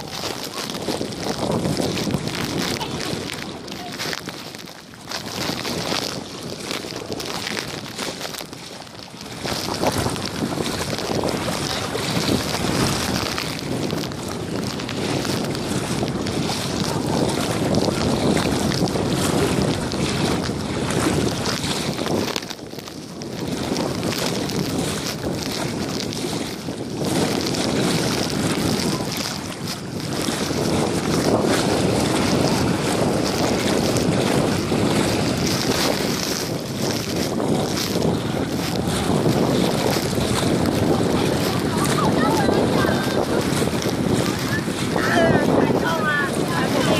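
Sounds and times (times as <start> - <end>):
water sloshing around wading legs: 0.0 - 46.9
wind buffeting microphone: 0.0 - 46.9.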